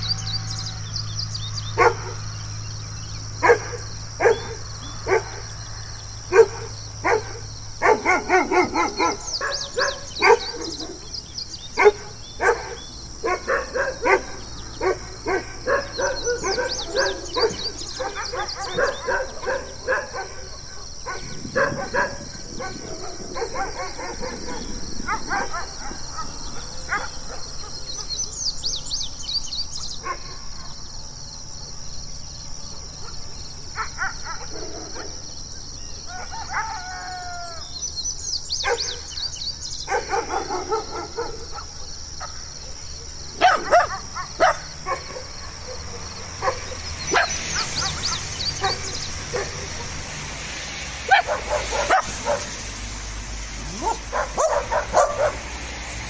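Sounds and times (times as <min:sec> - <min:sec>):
dogs barking and howling: 0:01.7 - 0:02.3, 0:03.2 - 0:28.4, 0:32.8 - 0:35.3, 0:36.0 - 0:37.8, 0:38.6 - 0:56.0.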